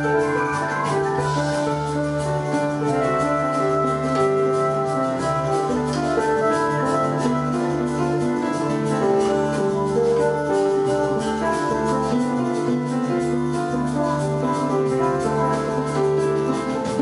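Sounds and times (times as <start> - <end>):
electronic keyboards playing: 0.0 - 17.0.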